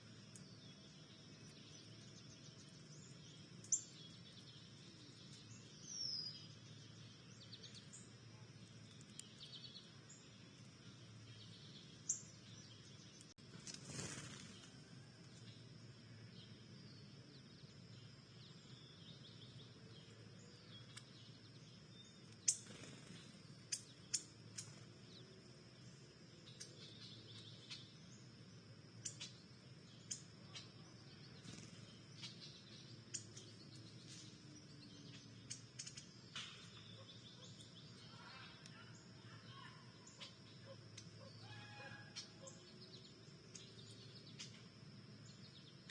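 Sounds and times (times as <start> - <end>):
faint outdoor background: 0.0 - 45.9.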